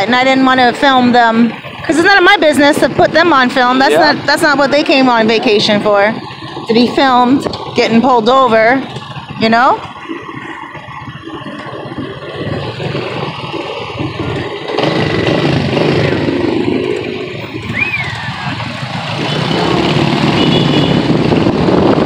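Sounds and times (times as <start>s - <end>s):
road noise in traffic: 0.0s - 22.0s
vehicle engine: 0.0s - 22.0s.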